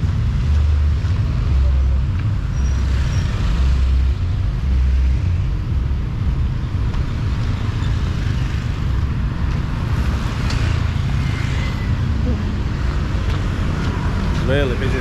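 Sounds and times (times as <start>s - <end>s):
traffic noise: 0.0s - 15.0s
vehicles passing close: 0.0s - 15.0s.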